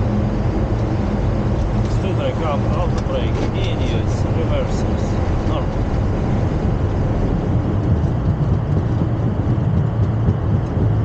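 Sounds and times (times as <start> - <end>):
airliner landing rollout rumble: 0.0 - 11.0.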